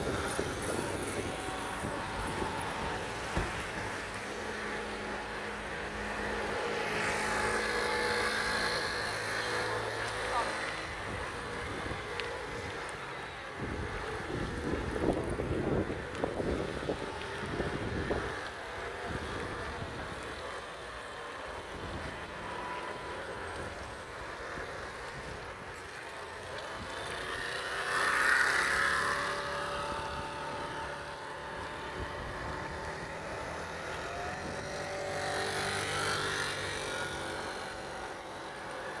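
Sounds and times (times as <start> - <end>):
motor scooter passing: 0.0 - 39.0
street traffic: 0.0 - 39.0.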